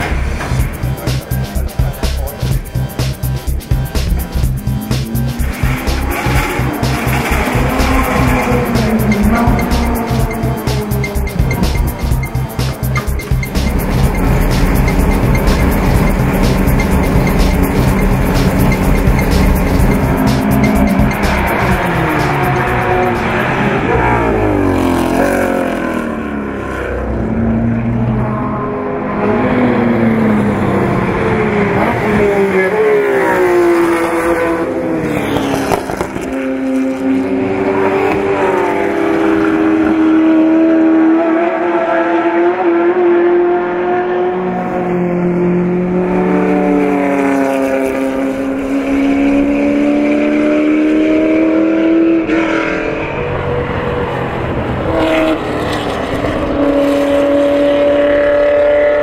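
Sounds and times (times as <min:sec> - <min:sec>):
racing engine revving with gear changes: 0:00.0 - 0:59.0.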